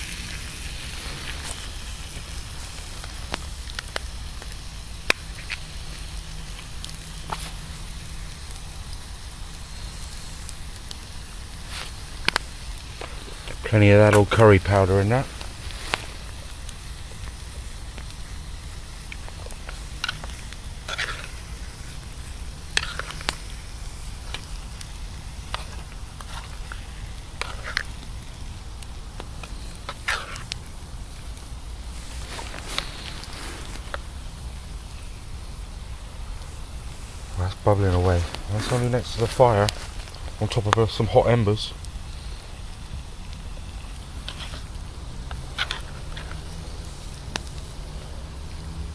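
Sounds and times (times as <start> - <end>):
beans simmering in a pan: 0.0 - 48.9
campfire crackling: 0.0 - 48.9
fire popping: 0.0 - 48.9
low fire hiss: 0.0 - 48.9.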